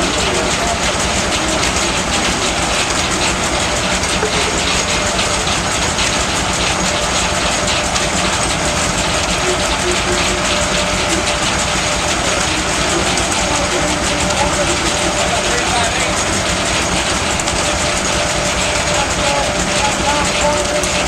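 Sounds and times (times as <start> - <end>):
fast mechanical rattle: 0.0 - 21.0
sawmill machinery rumbling: 0.0 - 21.0.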